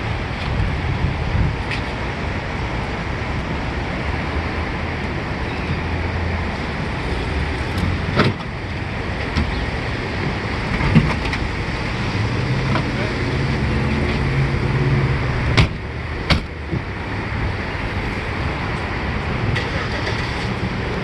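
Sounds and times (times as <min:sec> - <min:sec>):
motor vehicle rumble: 0:00.0 - 0:21.0.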